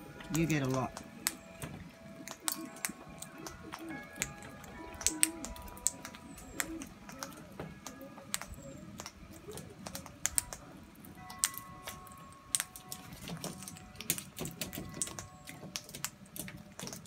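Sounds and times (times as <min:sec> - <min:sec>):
beaks pecking and cracking seed: 0:00.2 - 0:17.0.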